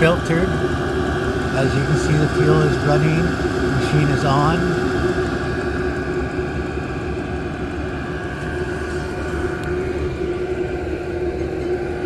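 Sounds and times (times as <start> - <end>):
heater mechanical whir: 0.0 - 12.0.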